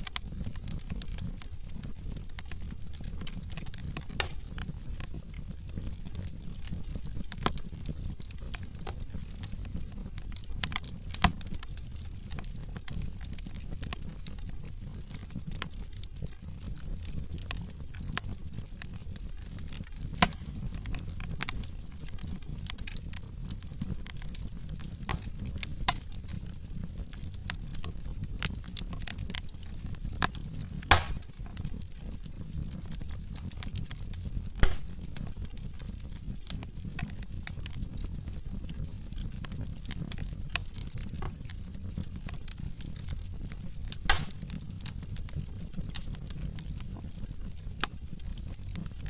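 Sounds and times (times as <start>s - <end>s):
low rumble of flames: 0.0s - 49.0s
wood fire crackling and popping: 0.0s - 49.0s.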